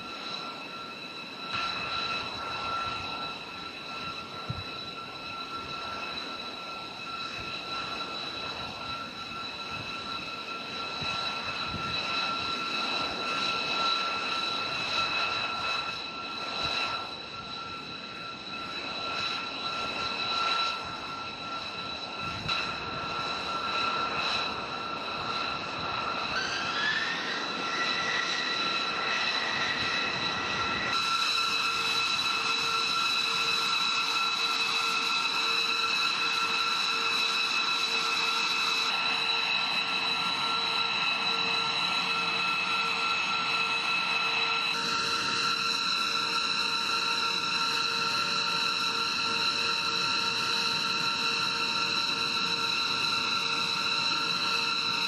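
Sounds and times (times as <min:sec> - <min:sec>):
jet engine spooling up: 0:00.0 - 0:55.0
jet engine whine and rush: 0:00.0 - 0:55.0.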